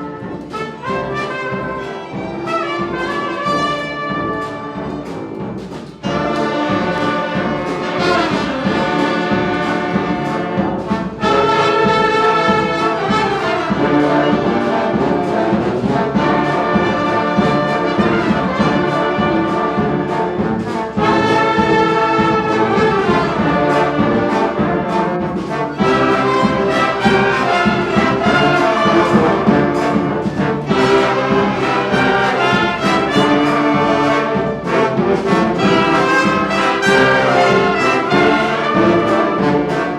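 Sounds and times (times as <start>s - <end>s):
brass ensemble playing: 0.0s - 39.9s.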